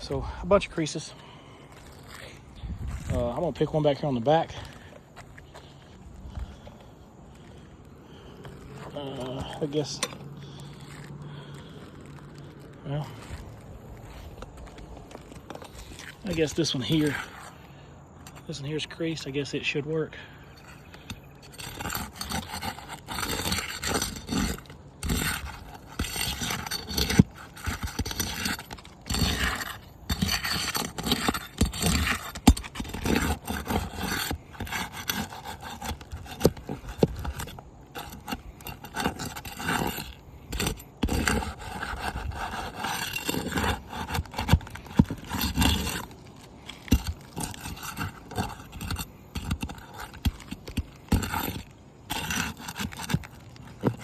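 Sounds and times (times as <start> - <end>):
roof shingles being scraped: 0.0 - 54.0.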